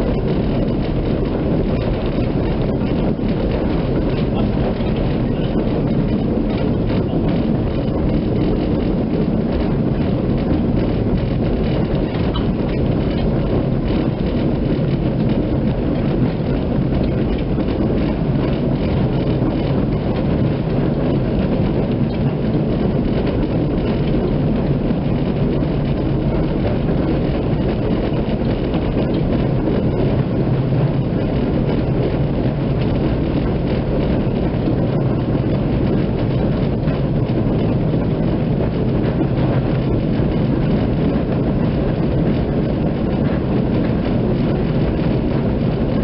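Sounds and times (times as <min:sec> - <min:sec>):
tram wheels rumbling on rails: 0:00.0 - 0:46.0.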